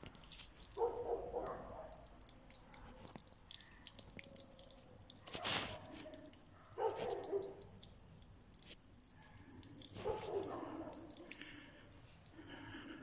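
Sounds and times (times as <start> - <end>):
water trickling onto stones: 0.0 - 13.0.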